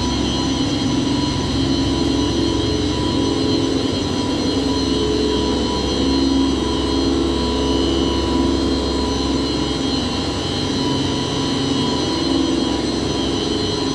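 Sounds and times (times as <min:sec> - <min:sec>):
water pumps droning and whining: 0:00.0 - 0:13.9.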